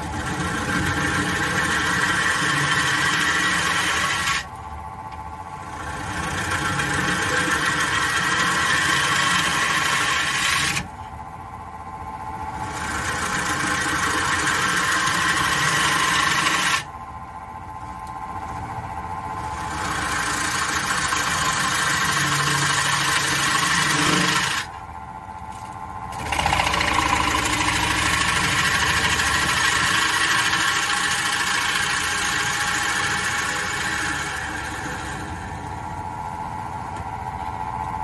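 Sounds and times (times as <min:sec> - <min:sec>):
gouge cutting spinning wood: 0:00.0 - 0:04.6, 0:05.5 - 0:10.9, 0:12.4 - 0:17.0, 0:19.1 - 0:24.8, 0:26.0 - 0:36.4
lathe humming: 0:00.0 - 0:38.0.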